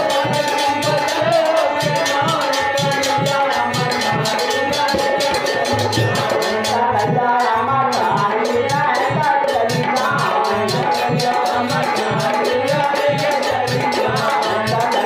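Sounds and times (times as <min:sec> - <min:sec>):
fast ticking percussion: 0:00.0 - 0:15.0
steady drum beat: 0:00.0 - 0:15.0.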